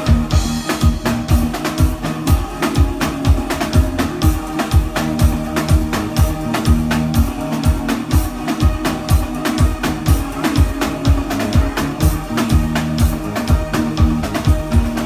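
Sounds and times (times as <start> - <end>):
live band playing soca: 0.0 - 15.0.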